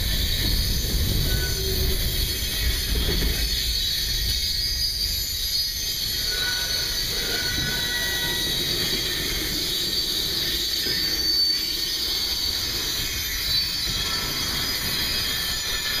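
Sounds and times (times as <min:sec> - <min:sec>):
freight cars rumbling on rails: 0:00.0 - 0:16.0
high-pitched wheel squeal: 0:00.0 - 0:16.0.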